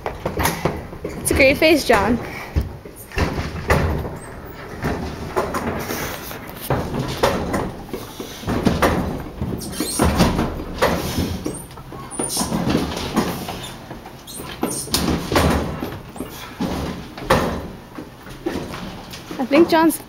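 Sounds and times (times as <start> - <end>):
refrigerator knocking and scraping: 0.0 - 20.0.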